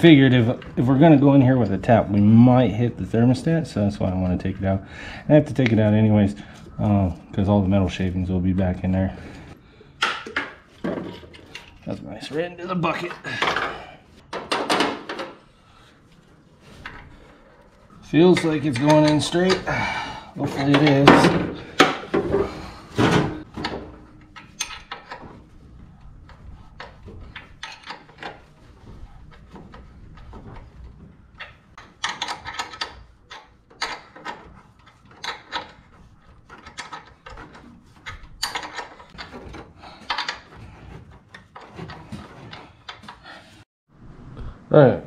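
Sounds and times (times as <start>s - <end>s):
hand tools clicking and scraping: 0.0s - 43.7s.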